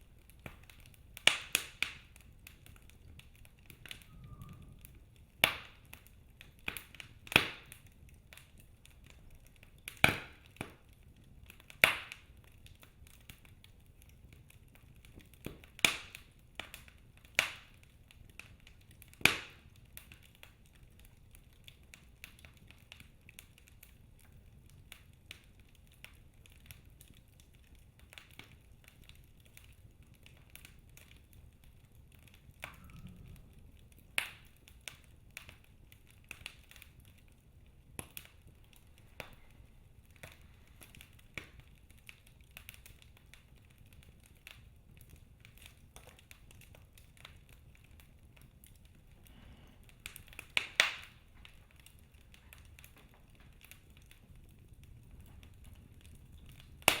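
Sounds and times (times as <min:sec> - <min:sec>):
low steady hiss: 0:00.0 - 0:57.0
wood fire crackling: 0:00.0 - 0:57.0.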